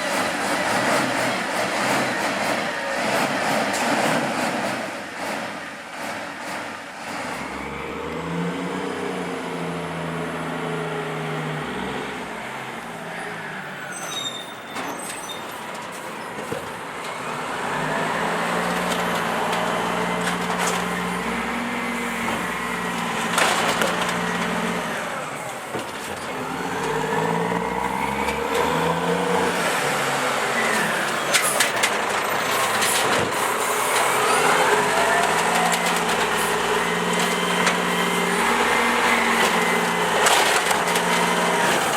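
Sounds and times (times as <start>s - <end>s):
garbage truck engine revving: 0.0s - 41.9s.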